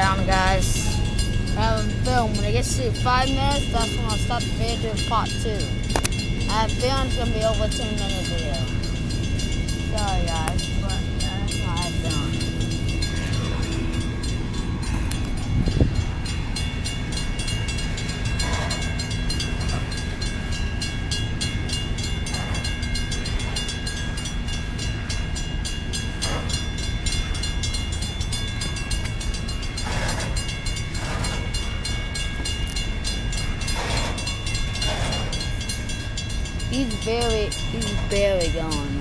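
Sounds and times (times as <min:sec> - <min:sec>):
high-pitched steady tones: 0:00.0 - 0:29.8, 0:30.4 - 0:39.0
train rolling rumble: 0:00.0 - 0:39.0.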